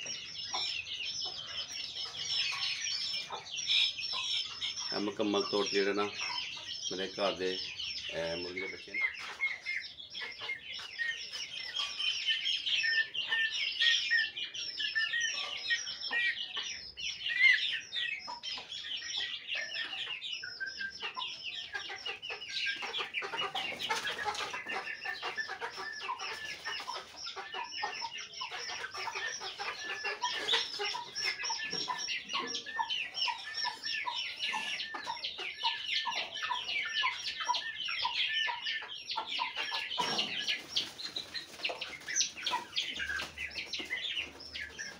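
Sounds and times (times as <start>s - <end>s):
adult chicken clucking: 0.0s - 44.9s
chicks peeping: 0.0s - 44.9s.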